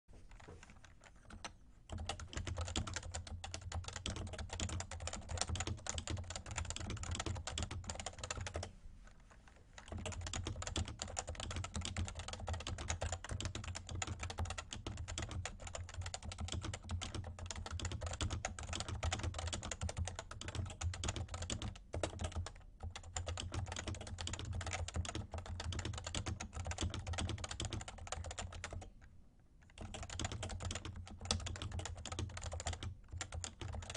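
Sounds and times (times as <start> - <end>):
fast typing on a keyboard: 0.3 - 8.7, 9.8 - 29.0, 29.6 - 33.9.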